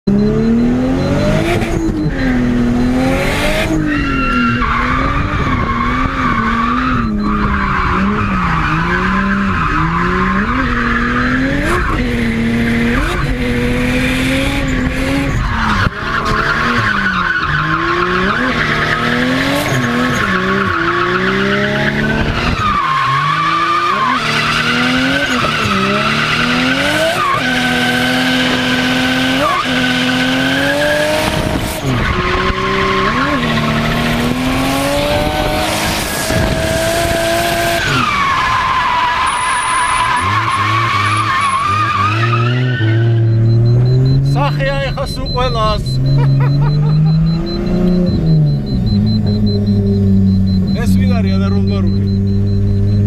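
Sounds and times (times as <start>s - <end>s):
car engine revving hard: 0.1s - 53.0s.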